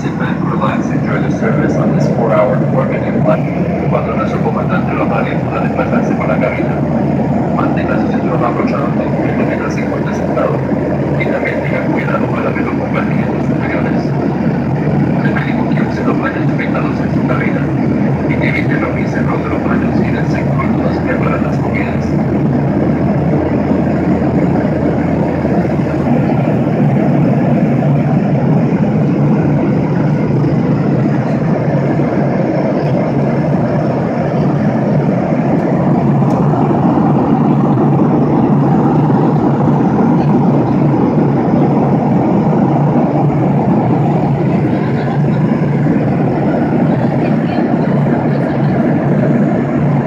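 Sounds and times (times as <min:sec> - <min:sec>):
jet engine drone: 0:00.0 - 0:50.0
rushing airflow: 0:00.0 - 0:50.0.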